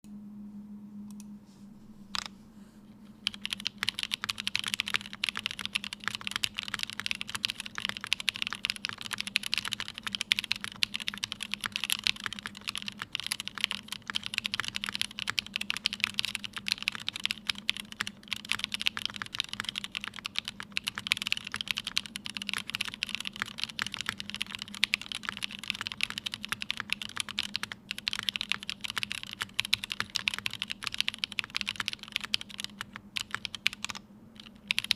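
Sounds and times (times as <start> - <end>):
mechanical keyboard typing: 2.1 - 2.3, 3.2 - 34.9.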